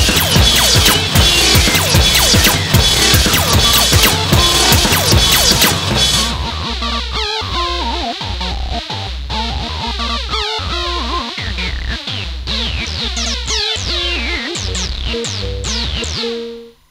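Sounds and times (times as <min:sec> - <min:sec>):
electronic rock music: 0:00.0 - 0:16.7.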